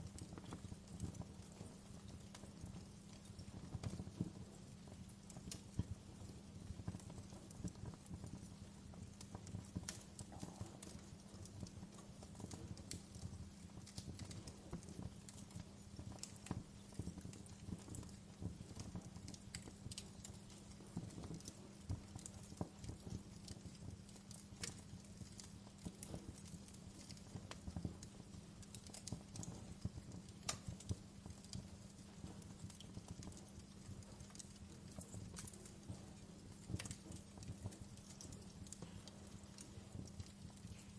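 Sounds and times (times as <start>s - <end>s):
pops and snaps of fire: 0.0s - 40.9s
wood fire crackling: 0.0s - 40.9s.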